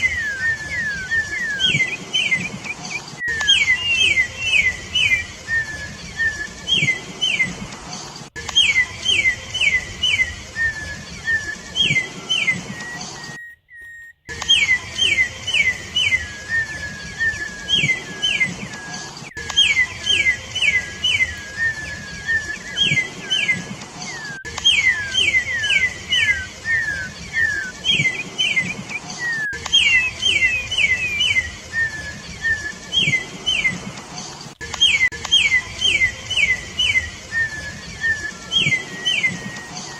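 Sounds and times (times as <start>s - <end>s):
bird singing whistled notes: 0.0s - 7.6s, 8.3s - 34.0s, 34.6s - 39.9s.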